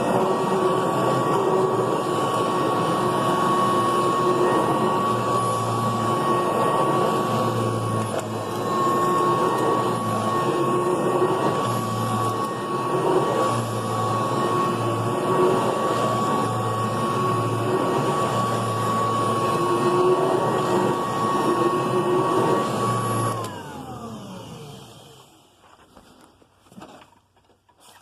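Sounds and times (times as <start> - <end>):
vacuum motor winding down: 0.0 - 25.4
vacuum cleaner whining: 0.0 - 26.2.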